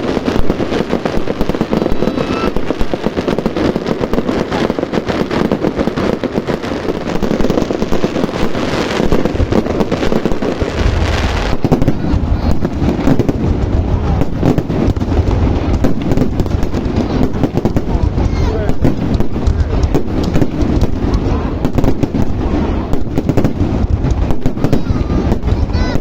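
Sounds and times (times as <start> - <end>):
deep firework booms: 0.0 - 26.0
fireworks bangs and crackling: 0.0 - 26.0.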